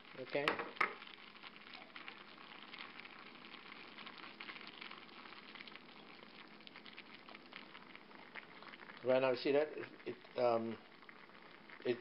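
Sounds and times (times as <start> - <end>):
soup boiling with bubbling pops: 0.0 - 12.0.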